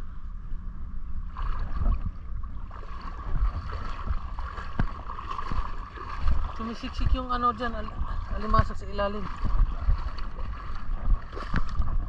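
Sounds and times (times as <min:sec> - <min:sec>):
wind rumble on microphone: 0:00.0 - 0:12.0
seawater sloshing around legs: 0:01.3 - 0:12.0.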